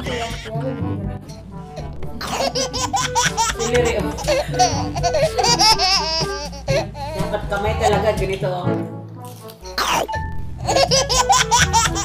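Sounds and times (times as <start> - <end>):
bouncy background music: 0.0 - 12.0.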